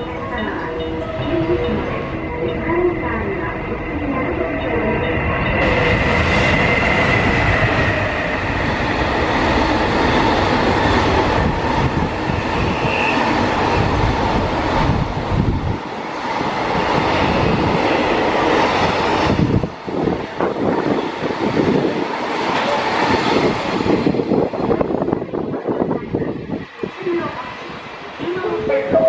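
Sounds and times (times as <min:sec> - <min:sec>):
freight train passing: 0:00.0 - 0:29.0.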